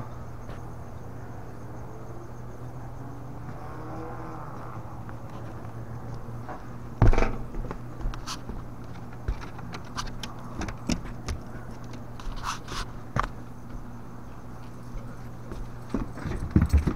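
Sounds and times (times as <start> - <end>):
low electrical hum: 0.0 - 16.9.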